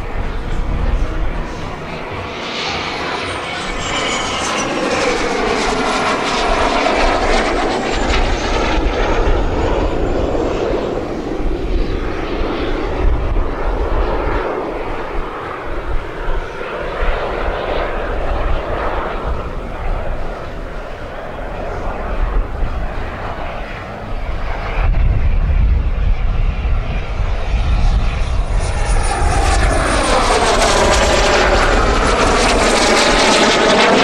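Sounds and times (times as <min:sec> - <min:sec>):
jet turbine roar and whine: 0:00.0 - 0:34.0.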